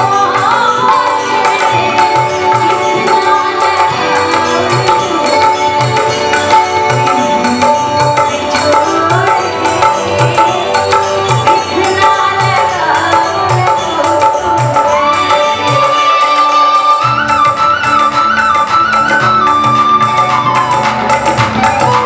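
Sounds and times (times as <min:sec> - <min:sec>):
harmonium sustained note: 0:00.0 - 0:21.4
gliding melody: 0:00.0 - 0:22.0
tabla beat: 0:00.0 - 0:22.0.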